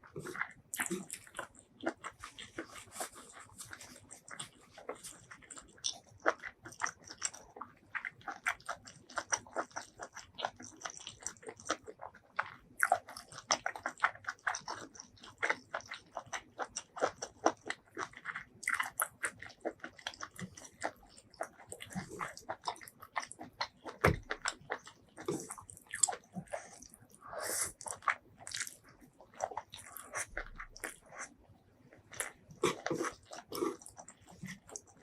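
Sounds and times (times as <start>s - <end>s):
person chewing and smacking: 0.0s - 35.0s.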